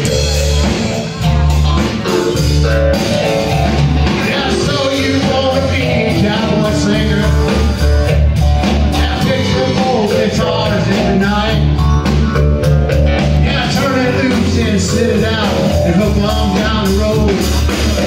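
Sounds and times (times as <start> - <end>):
live country rock band: 0.0 - 18.0.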